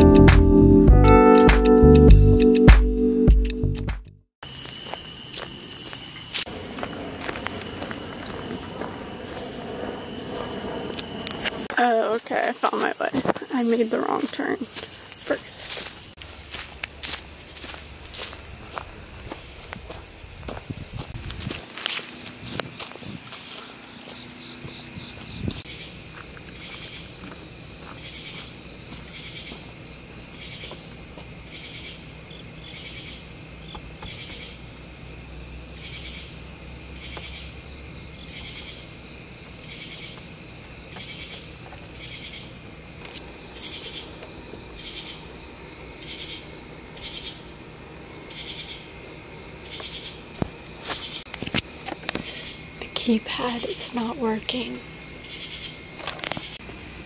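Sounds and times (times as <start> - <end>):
cricket trill: 4.4 - 57.0
insect rhythmic pulsing call: 4.4 - 57.0.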